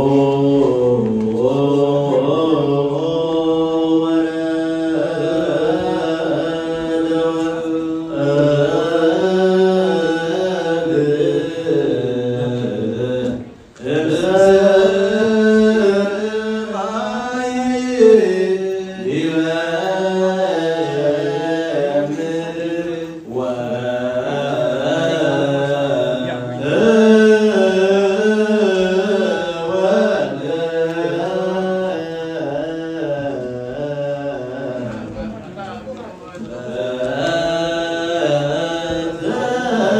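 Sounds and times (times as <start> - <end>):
men chanting a hymn through microphones: 0.0 - 39.9.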